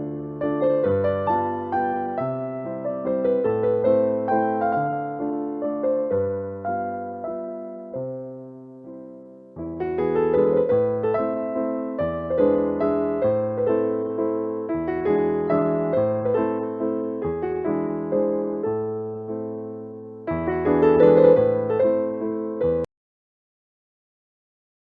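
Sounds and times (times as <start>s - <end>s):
gentle piano tune: 0.0s - 22.9s.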